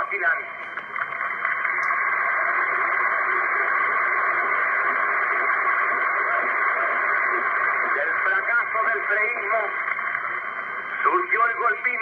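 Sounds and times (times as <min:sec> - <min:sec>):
crowd applauding and cheering: 0:00.3 - 0:12.0.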